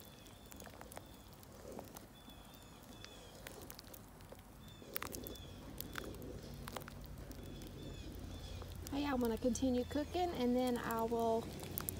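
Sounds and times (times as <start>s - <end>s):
wooden spoon stirring thick chili: 0.0s - 11.9s.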